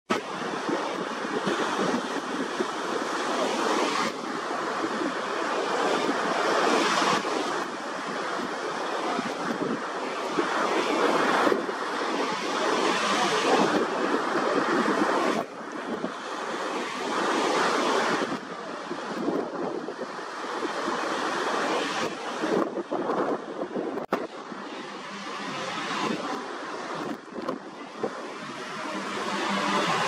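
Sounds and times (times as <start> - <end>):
waves breaking on beach: 0.1 - 30.0
wind on microphone: 0.1 - 30.0.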